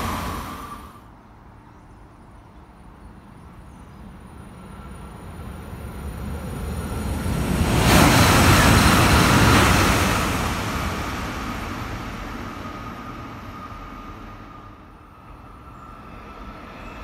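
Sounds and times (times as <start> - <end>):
electric train passing: 0.0 - 1.2, 4.0 - 17.0
train approaching: 0.0 - 1.6, 2.8 - 17.0.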